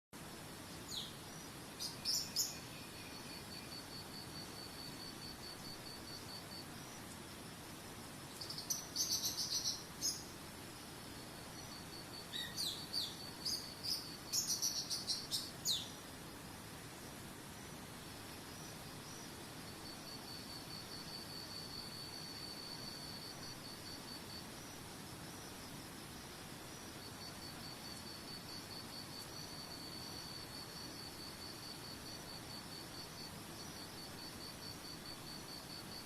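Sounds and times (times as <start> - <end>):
songbirds chirping: 0.2 - 36.0
insect pulsing trill: 0.8 - 16.4, 17.5 - 36.0.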